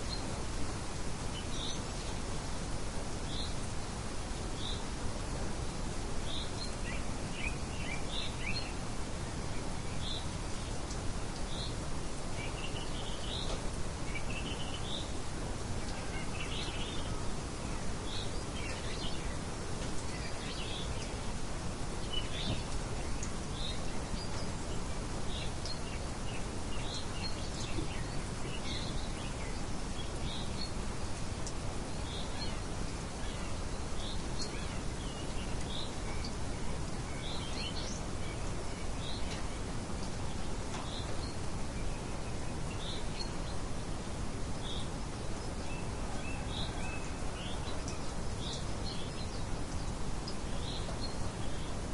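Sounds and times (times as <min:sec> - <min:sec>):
songbirds chirping: 0:00.0 - 0:51.9
steady background hiss: 0:00.0 - 0:51.9.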